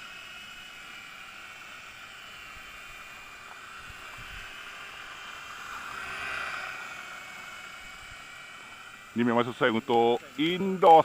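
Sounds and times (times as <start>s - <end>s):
helicopter rotor whining: 0.0s - 11.0s.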